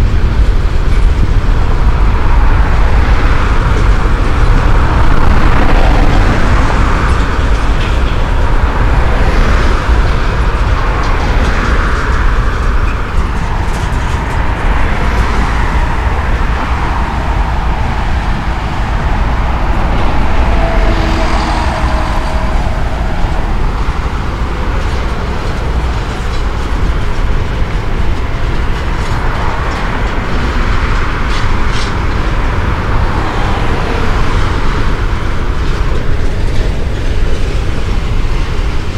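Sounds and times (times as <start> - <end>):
freight train rumbling: 0.0 - 38.9
road traffic passing: 0.0 - 38.9.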